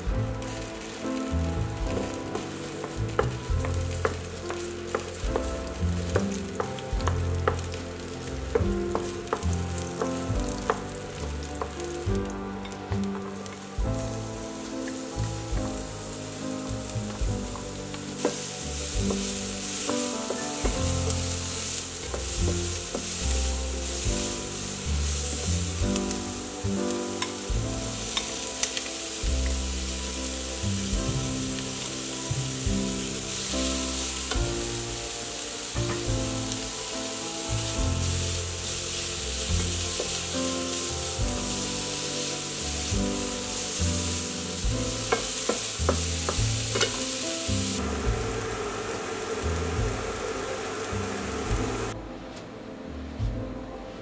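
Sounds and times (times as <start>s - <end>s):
garlic sizzling in oil: 0.0s - 52.0s
background music: 0.0s - 54.0s
wooden spatula scraping pan: 1.8s - 48.2s.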